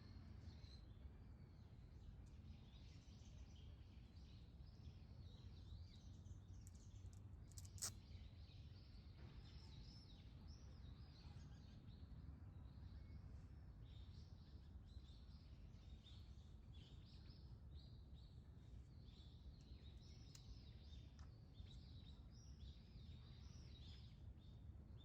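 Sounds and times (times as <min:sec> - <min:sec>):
small birds chirping: 0:02.0 - 0:12.0, 0:13.9 - 0:24.7.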